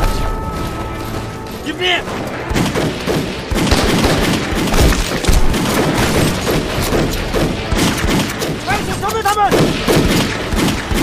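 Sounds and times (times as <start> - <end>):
pistol gunfire: 2.1 - 11.0.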